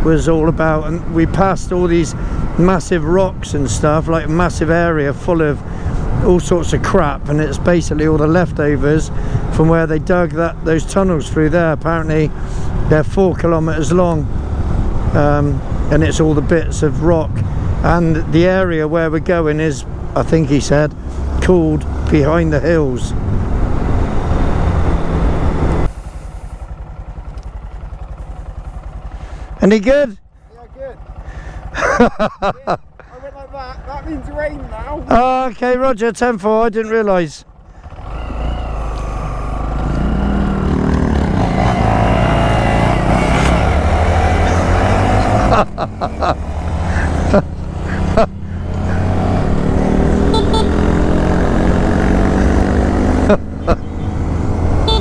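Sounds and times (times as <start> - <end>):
motorcycle engine: 0.0 - 32.1, 32.8 - 35.4, 37.4 - 55.0.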